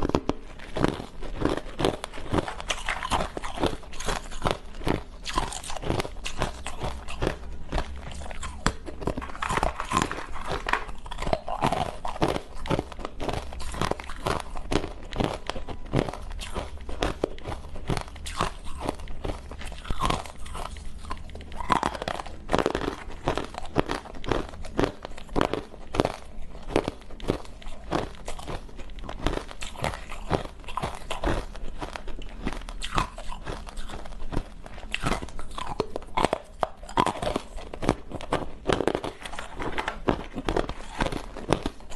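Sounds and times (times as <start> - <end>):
ice cubes crunching: 0.0 - 41.9.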